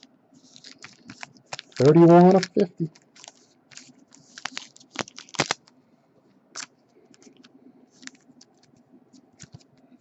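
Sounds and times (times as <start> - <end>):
cards clicking and rustling: 0.0 - 5.7, 6.6 - 9.8.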